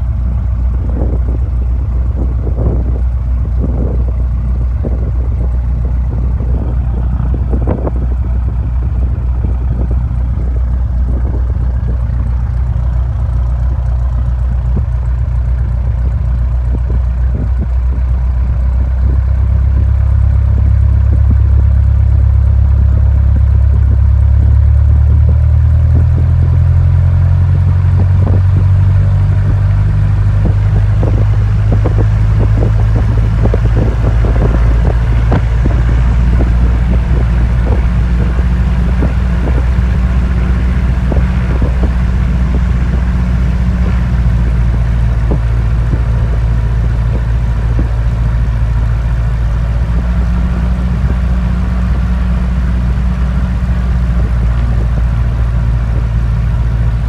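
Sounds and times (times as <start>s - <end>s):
small plane engine droning: 0.0s - 57.0s.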